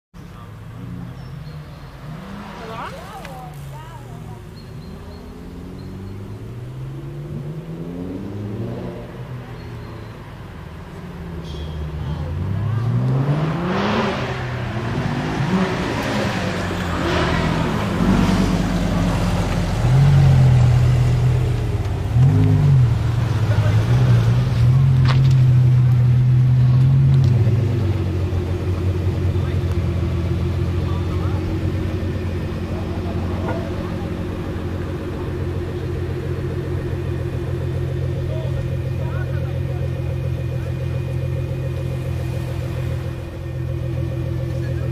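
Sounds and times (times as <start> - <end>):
car engine revving: 0.2 - 44.9.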